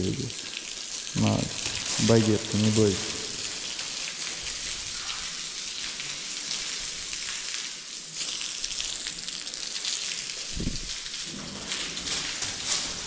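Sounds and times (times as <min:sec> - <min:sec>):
water spraying from hose: 0:00.0 - 0:13.0.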